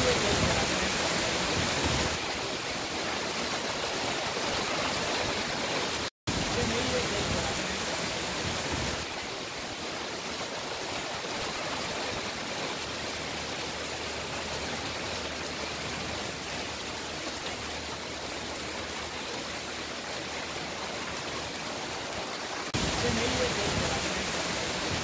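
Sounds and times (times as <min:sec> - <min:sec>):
heavy rain and hail on roofs: 0:00.0 - 0:25.0.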